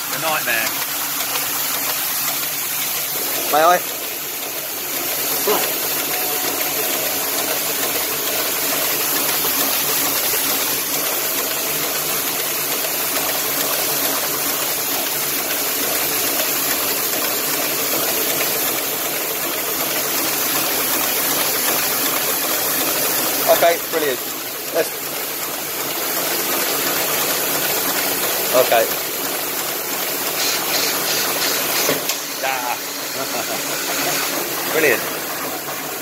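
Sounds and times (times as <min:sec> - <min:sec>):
printing press whirring and hissing: 0:00.0 - 0:36.0.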